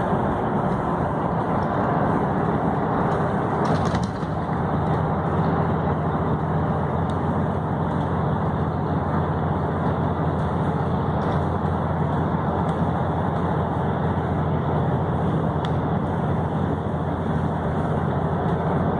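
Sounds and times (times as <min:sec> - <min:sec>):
vehicle road and engine noise: 0:00.0 - 0:18.9.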